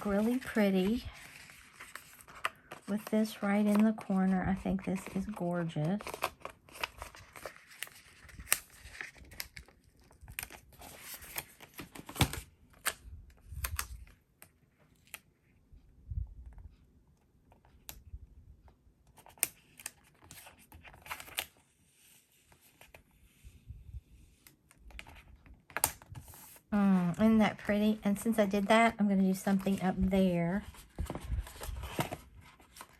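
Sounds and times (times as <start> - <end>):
paper rustling and crinkling: 0.0 - 14.2, 19.1 - 23.6, 24.7 - 32.9.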